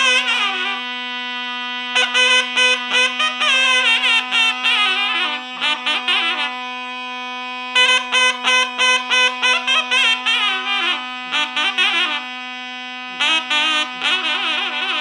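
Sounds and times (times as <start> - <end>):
reed instrument drone: 0.0 - 15.0
zurna playing ornamented melody: 0.0 - 15.0.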